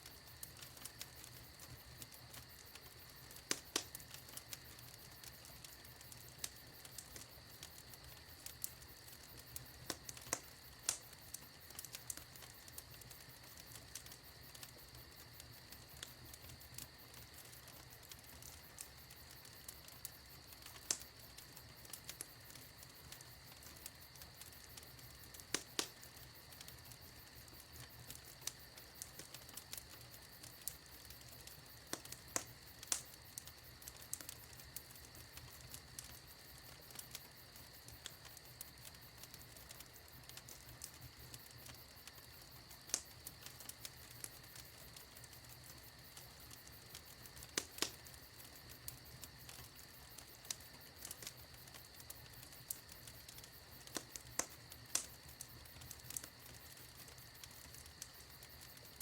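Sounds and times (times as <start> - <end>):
faint steady hiss: 0.0 - 59.0
fire crackling and popping: 0.0 - 59.0.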